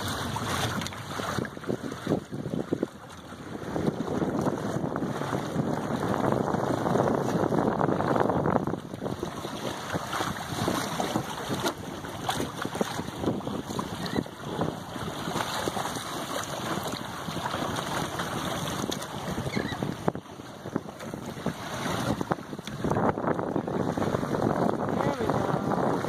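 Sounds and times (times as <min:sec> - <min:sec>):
water splashing along hull: 0:00.0 - 0:26.0
wind buffeting microphone: 0:00.0 - 0:26.0.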